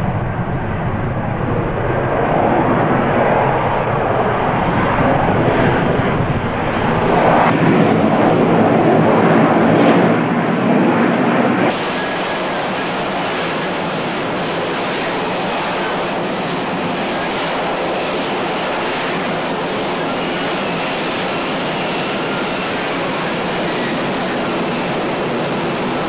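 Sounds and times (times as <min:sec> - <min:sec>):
jet engine rushing: 0:00.0 - 0:26.0.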